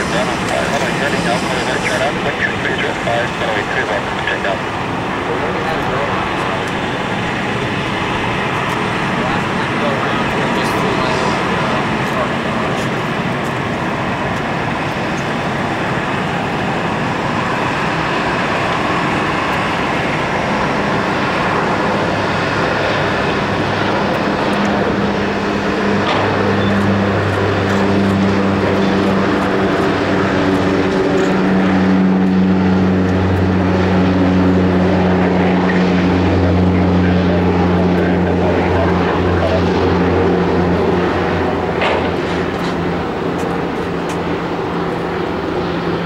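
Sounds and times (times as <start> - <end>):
low propeller hum: 0.0 - 46.0
turboprop plane taking off: 0.0 - 46.0.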